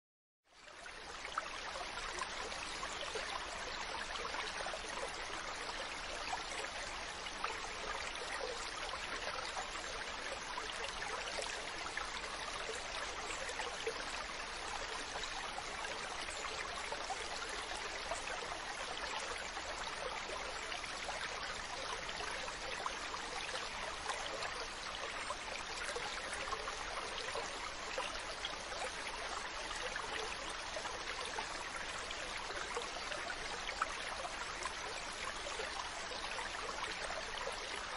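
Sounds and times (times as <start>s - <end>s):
running water: 0.6s - 37.9s.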